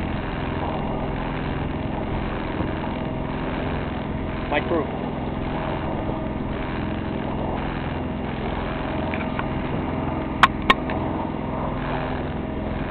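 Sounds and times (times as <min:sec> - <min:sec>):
sharp clicks: 0:00.0 - 0:11.1
boat engine droning: 0:00.0 - 0:12.9.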